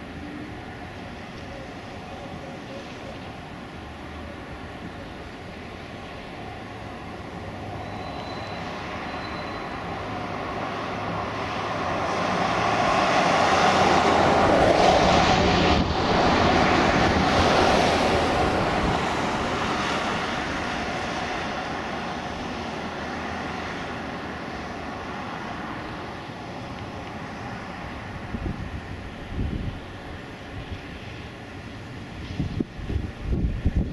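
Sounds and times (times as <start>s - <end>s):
distant turboprop plane drone: 0.0s - 33.9s
wind: 0.0s - 33.9s.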